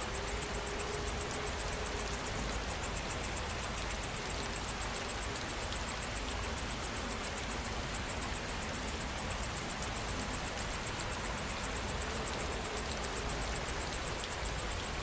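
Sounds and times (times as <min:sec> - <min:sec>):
high-pitched pulsing insect call: 0:00.0 - 0:15.0
steady rain falling: 0:00.0 - 0:15.0.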